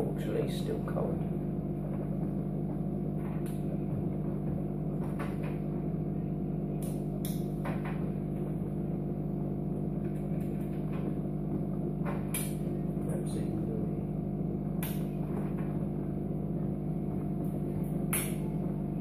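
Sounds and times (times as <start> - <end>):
fog machine electrical hum: 0.0 - 19.0.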